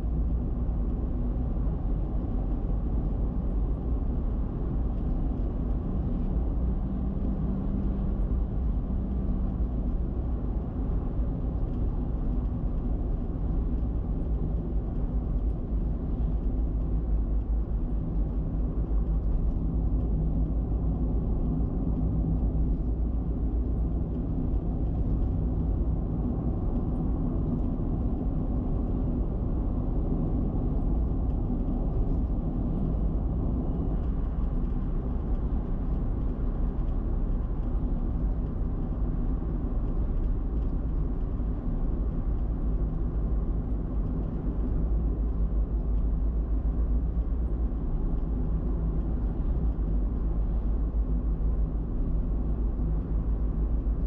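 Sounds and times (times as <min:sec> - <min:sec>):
low engine drone: 0:00.0 - 0:54.0.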